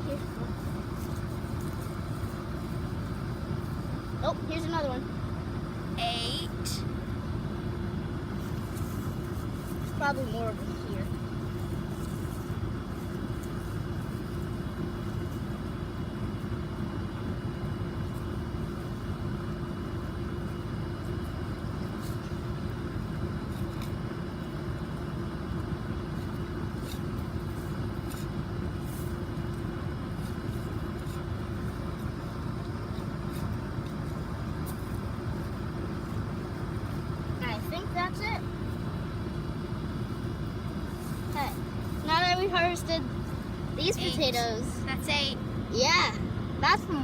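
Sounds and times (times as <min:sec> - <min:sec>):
hands rustling in garden soil: 0:00.0 - 0:04.2, 0:08.3 - 0:16.6, 0:17.3 - 0:44.7
low machine rumble and hum: 0:00.0 - 0:47.0.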